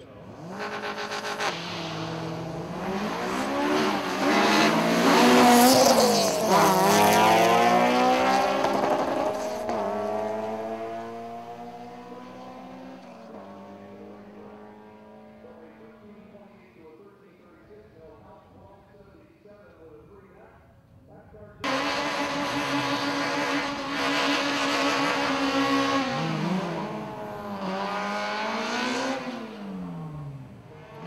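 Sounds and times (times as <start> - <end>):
car engines revving and upshifting: 0.0 - 16.8, 21.6 - 31.0.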